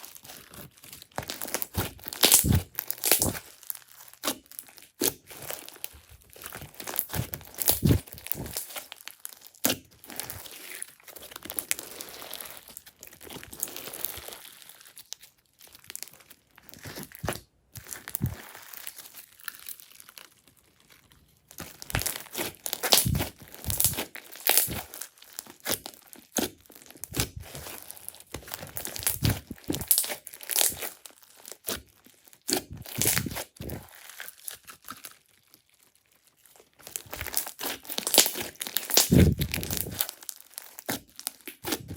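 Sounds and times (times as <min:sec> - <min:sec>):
slime squished by hand: 0:00.0 - 0:41.9.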